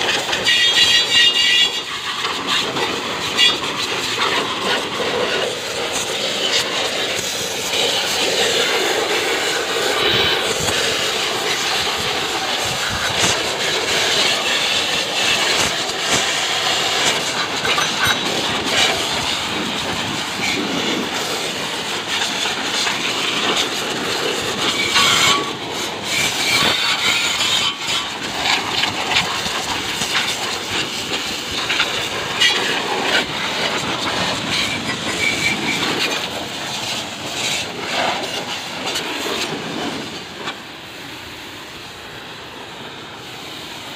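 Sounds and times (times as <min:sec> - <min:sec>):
pressure washer jet hissing: 0:00.0 - 0:42.4.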